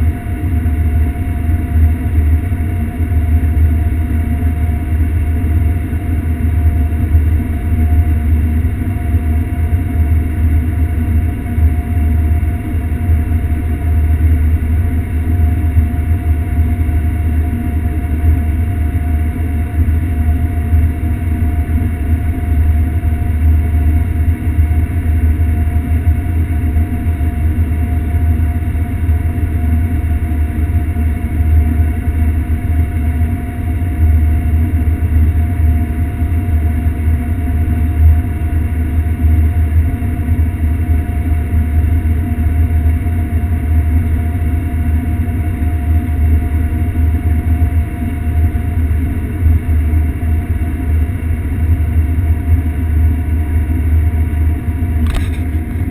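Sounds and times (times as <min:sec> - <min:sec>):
combine harvester deep drone: 0:00.0 - 0:55.9
faint constant whine: 0:00.0 - 0:55.9.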